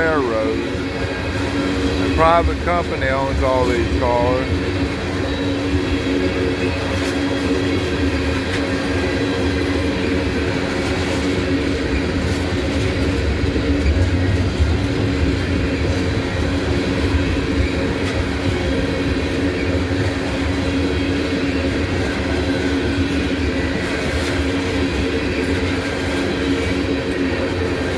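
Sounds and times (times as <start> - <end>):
train wheels growling on rails: 0.0 - 27.9.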